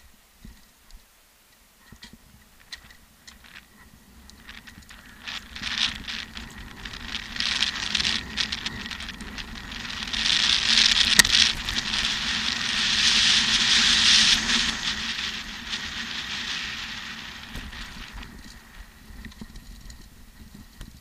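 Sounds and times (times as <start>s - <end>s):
bike rattling over bumps: 1.8s - 21.0s
bike tyre and wind rush: 1.8s - 21.0s.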